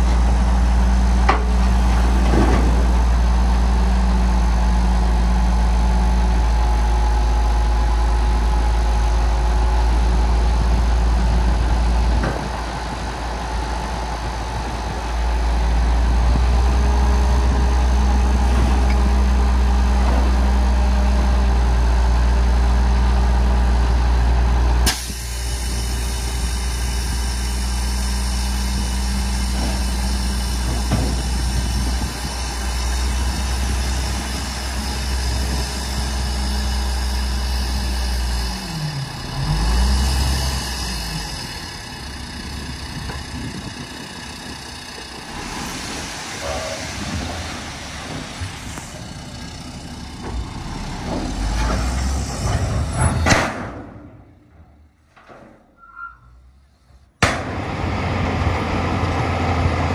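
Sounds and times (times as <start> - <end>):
heavy diesel engine running: 0.0 - 55.7, 56.4 - 59.9.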